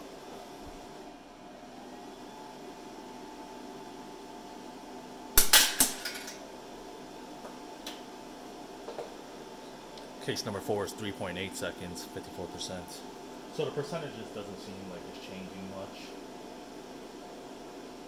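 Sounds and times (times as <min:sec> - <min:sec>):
induction annealer humming: 0:00.0 - 0:18.0.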